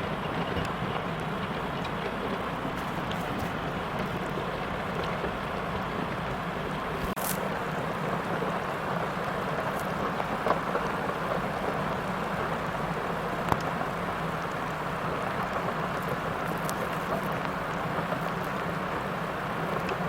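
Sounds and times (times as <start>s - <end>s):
diesel engine running: 0.0s - 20.0s
rushing river water: 0.0s - 20.0s.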